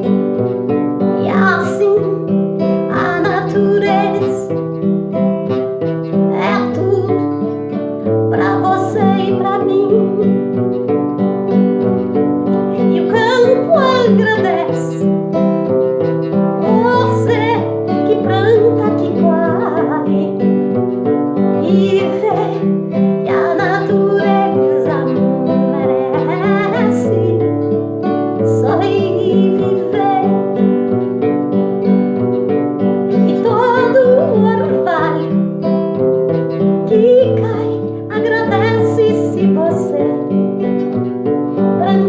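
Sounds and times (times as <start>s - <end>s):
plucked acoustic guitar: 0.0s - 42.0s
person singing: 1.1s - 4.8s, 5.5s - 10.6s, 12.5s - 15.3s, 16.1s - 20.8s, 21.4s - 31.0s, 33.1s - 42.0s.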